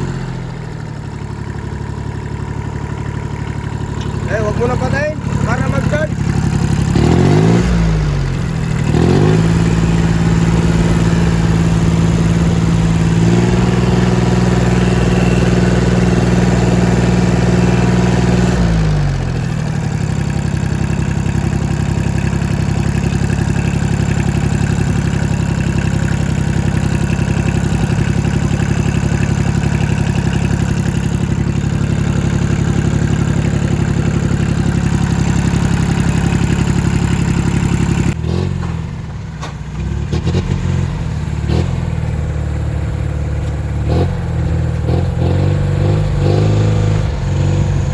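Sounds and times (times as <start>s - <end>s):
engine revving and idling: 0.0s - 47.9s.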